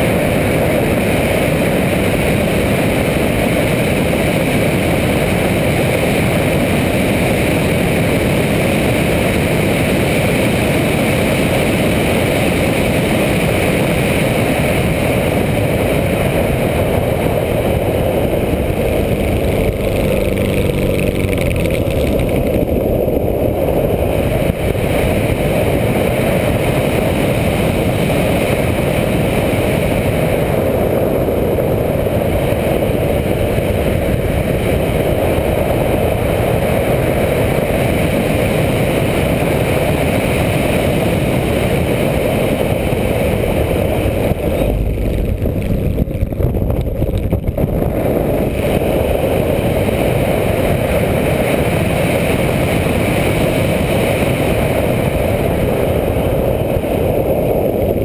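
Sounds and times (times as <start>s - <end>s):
propeller plane in flight: 0.0s - 58.0s.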